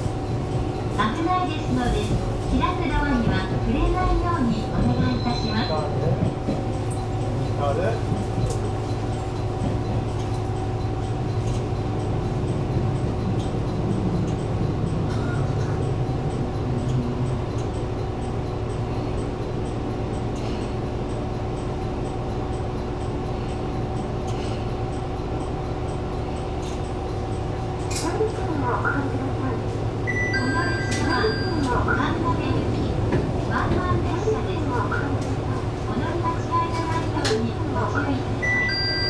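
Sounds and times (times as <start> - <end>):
railcar low hum: 0.0 - 39.0.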